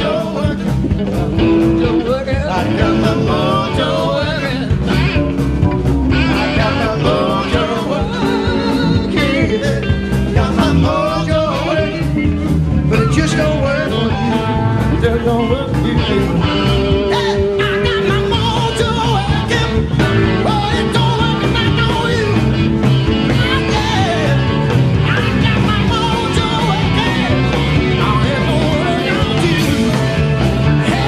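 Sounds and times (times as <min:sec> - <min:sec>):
man singing: 0:00.0 - 0:05.5, 0:06.1 - 0:31.0
drums: 0:00.0 - 0:31.0
electric guitars: 0:00.0 - 0:31.0.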